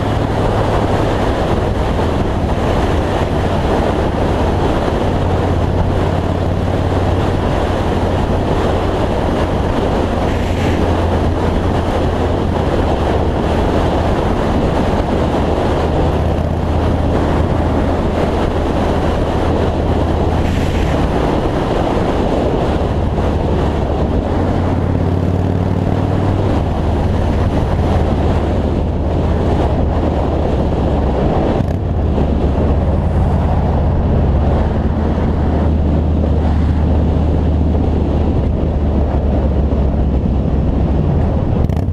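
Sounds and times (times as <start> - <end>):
motorcycle engine droning: 0.0 - 41.9
wind rush on microphone: 0.0 - 41.9.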